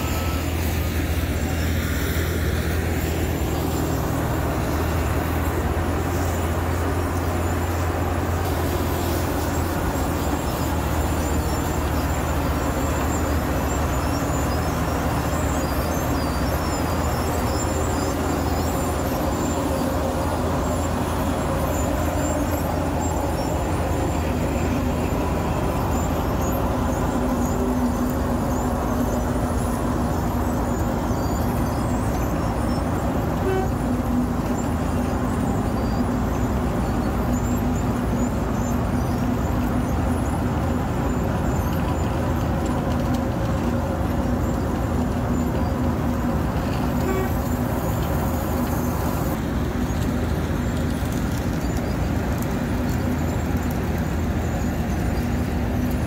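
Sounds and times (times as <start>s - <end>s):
cutting drum milling asphalt: 0.0s - 56.0s
diesel engine drone: 0.0s - 56.0s.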